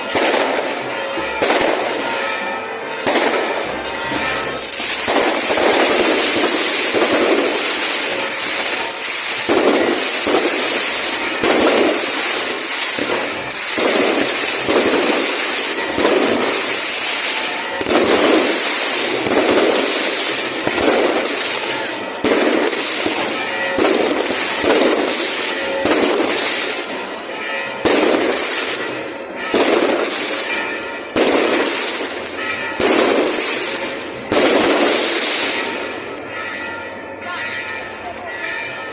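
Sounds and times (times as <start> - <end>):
fireworks bursts: 0.0 - 37.6
fireworks crackling: 0.0 - 38.9.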